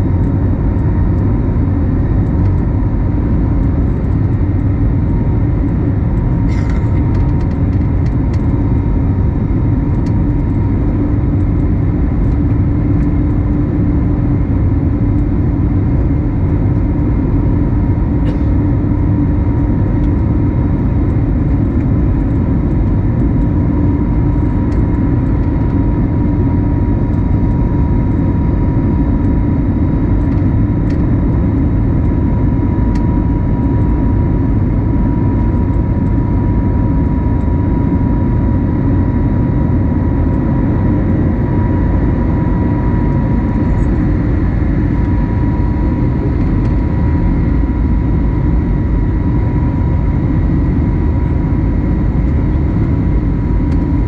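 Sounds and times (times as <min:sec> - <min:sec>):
aircraft engine and airflow noise: 0:00.0 - 0:54.0.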